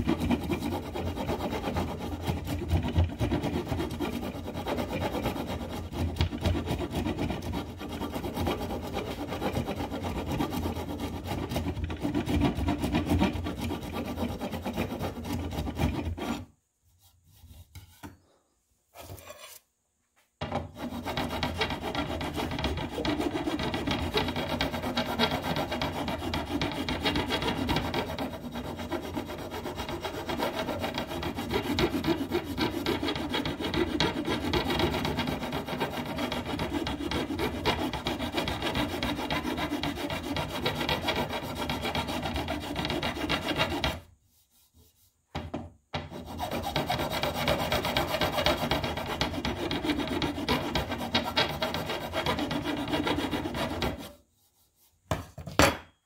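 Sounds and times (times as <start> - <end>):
metal file rasping on wood: 0.0 - 18.3, 18.9 - 19.7, 20.5 - 45.2, 46.0 - 55.0.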